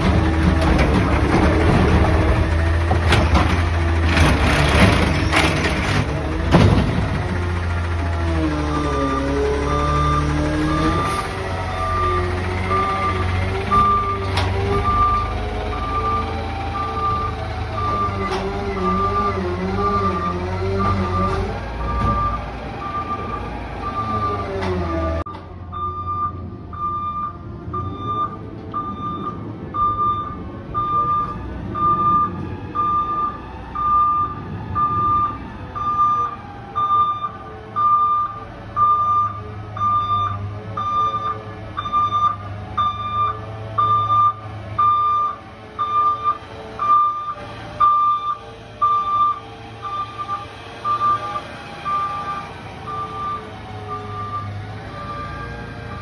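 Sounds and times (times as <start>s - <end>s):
truck engine rumble: 0.0s - 56.0s
truck backup alarm beeping: 6.5s - 56.0s.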